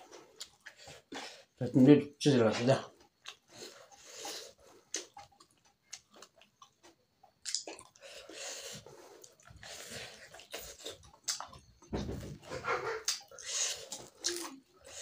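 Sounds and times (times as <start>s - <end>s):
person chewing food: 0.0s - 1.6s, 2.8s - 15.0s.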